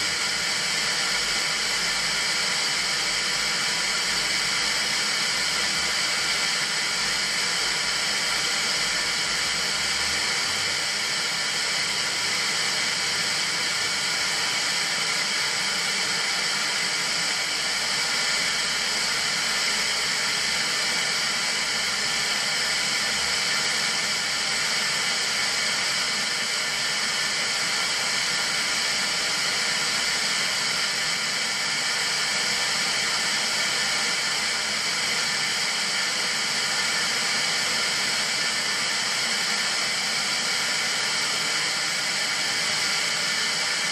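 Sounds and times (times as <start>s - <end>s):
tv static hiss: 0.0s - 43.9s.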